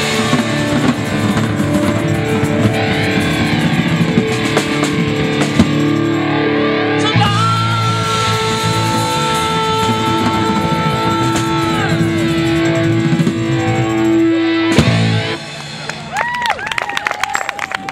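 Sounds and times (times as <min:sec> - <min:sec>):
guitar chords ringing: 0:00.0 - 0:15.8
live rock band: 0:00.0 - 0:17.9.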